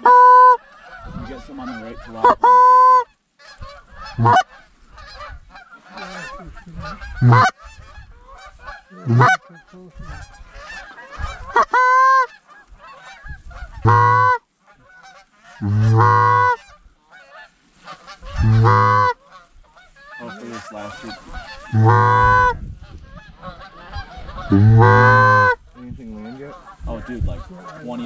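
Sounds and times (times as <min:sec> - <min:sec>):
geese chattering: 0:00.0 - 0:28.0
loud goose honks: 0:00.0 - 0:28.0.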